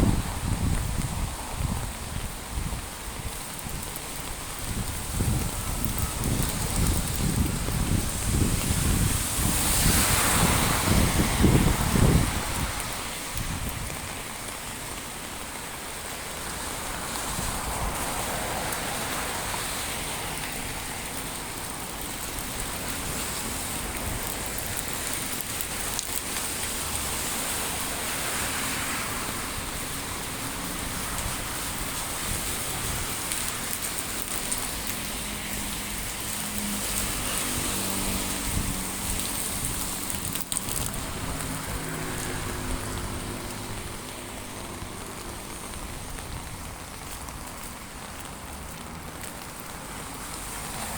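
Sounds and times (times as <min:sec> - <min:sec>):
heavy rain splashing: 0:00.0 - 0:50.9.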